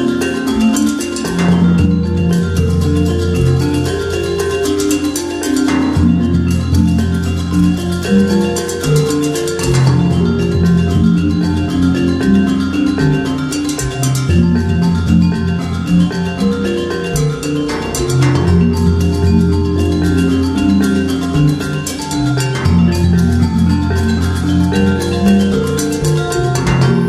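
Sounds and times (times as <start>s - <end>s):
melody with bass and beat: 0.0s - 27.0s.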